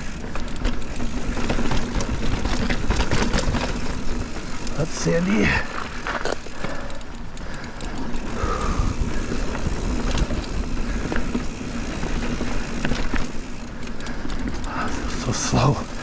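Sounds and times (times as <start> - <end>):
bike clicks and rattles: 0.0 - 16.0
mountain bike tyre rush: 0.0 - 16.0.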